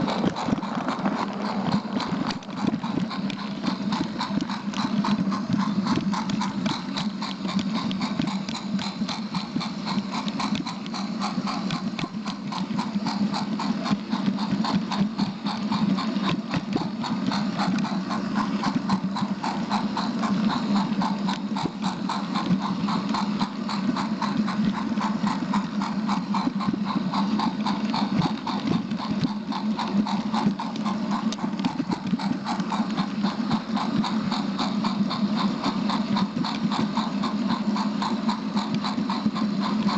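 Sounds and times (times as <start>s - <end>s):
small train clattering on track: 0.0s - 39.9s
steady low hum: 0.0s - 39.9s.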